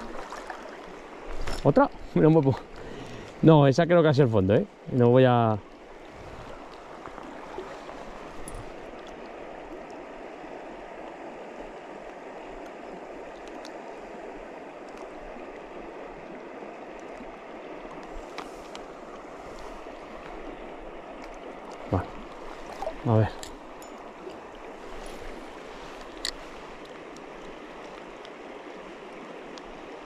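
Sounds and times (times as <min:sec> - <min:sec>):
river water running over stones: 0:00.0 - 0:30.0.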